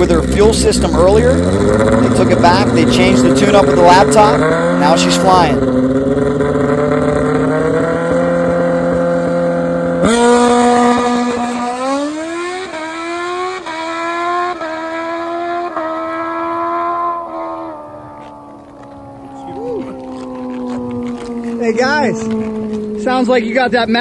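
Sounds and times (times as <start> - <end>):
sport motorcycle revving and accelerating: 0.0 - 24.0.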